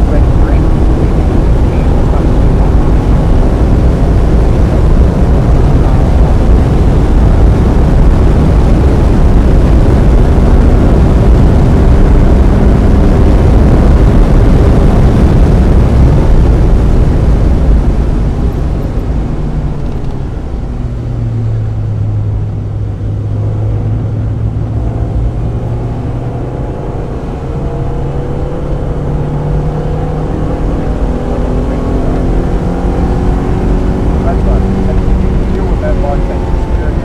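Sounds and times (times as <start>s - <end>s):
car engine accelerating: 0.0s - 37.0s
road noise rumble: 0.0s - 37.0s.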